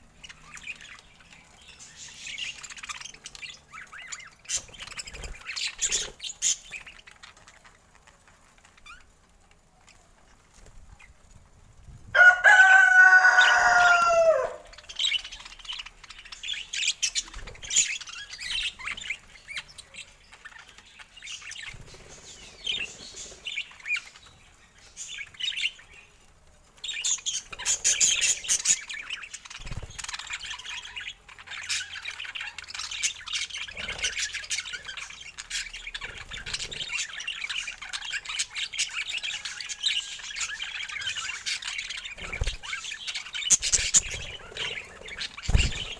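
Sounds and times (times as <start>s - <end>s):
budgerigars chirping and chattering: 0.0s - 11.3s, 12.2s - 26.2s, 26.8s - 45.9s.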